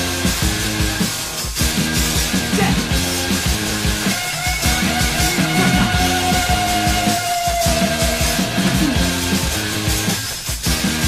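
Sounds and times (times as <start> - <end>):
punk rock music: 0.0 - 11.0.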